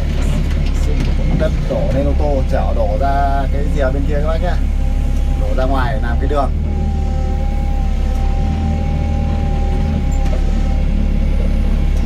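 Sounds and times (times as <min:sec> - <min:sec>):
excavator engine rumbling: 0:00.0 - 0:12.0.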